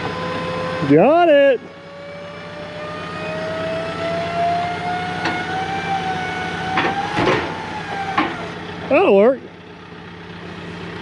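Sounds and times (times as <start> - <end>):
heavy machinery whine: 0.0 - 11.0.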